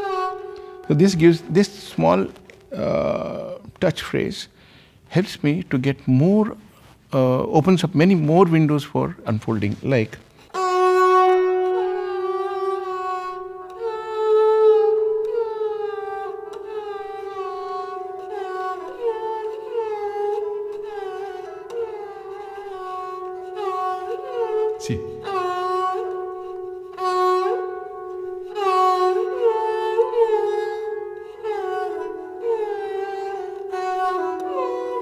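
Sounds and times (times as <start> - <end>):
sarangi bowed melody: 0.0 - 4.8, 5.5 - 35.0.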